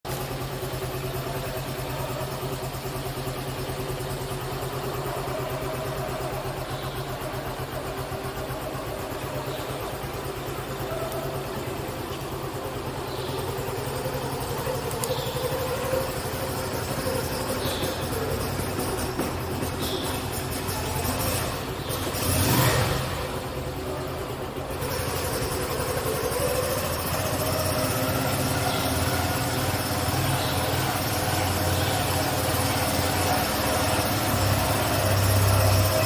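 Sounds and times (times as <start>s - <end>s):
motorcycle engine idling: 0.1s - 36.0s
motorcycle riding off: 0.1s - 36.0s.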